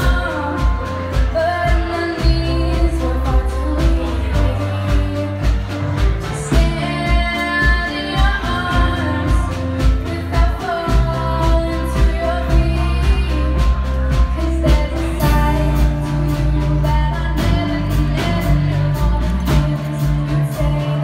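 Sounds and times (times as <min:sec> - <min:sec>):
bass guitar: 0:00.0 - 0:21.0
drums: 0:00.0 - 0:21.0
woman singing: 0:00.0 - 0:21.0.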